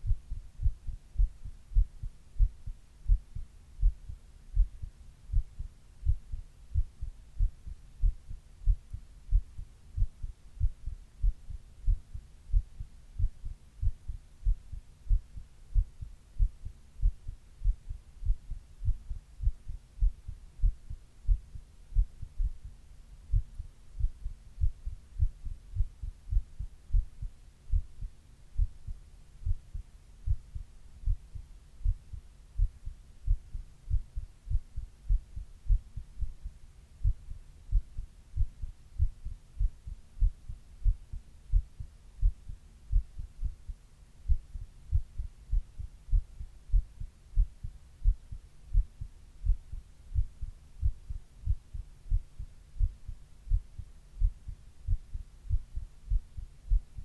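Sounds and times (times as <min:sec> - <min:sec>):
faint background hum: 0:00.0 - 0:57.0
heartbeat thumps: 0:00.0 - 0:57.0.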